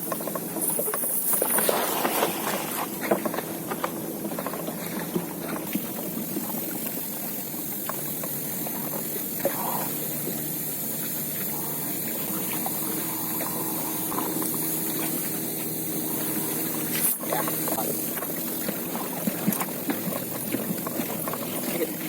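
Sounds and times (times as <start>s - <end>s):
river water sloshing: 0.0s - 22.0s.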